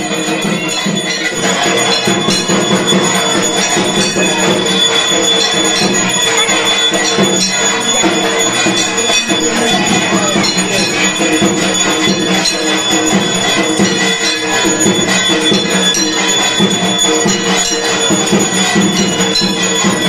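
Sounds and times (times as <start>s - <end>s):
bells ringing: 0.0s - 20.0s
devotional song: 0.4s - 19.0s.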